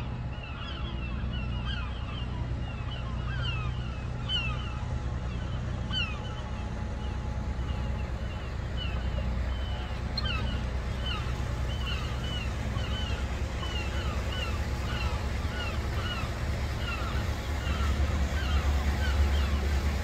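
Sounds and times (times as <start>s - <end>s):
harbour-side outdoor rumble: 0.0s - 20.0s.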